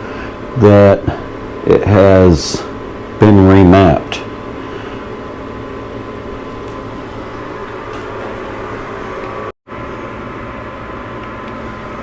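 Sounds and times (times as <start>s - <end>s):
mechanical hum with hiss: 0.0s - 12.0s.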